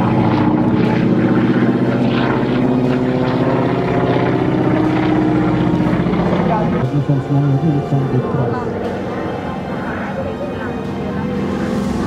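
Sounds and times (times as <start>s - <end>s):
propeller plane in flight: 0.0s - 12.0s.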